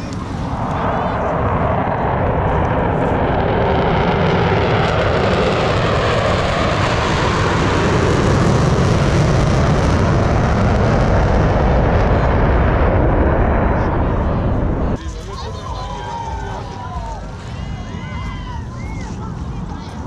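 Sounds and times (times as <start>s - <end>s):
jet aircraft flying past: 0.0s - 20.0s.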